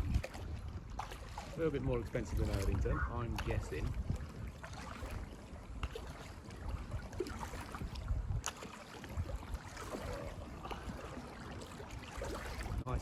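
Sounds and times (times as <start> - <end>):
paddle splashing in water: 0.0 - 13.0
wind rumbling on microphone: 0.0 - 13.0.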